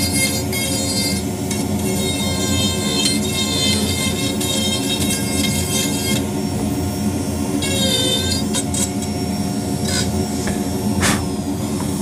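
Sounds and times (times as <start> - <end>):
rotary carver whining into wood: 0.0 - 6.9, 7.5 - 10.6.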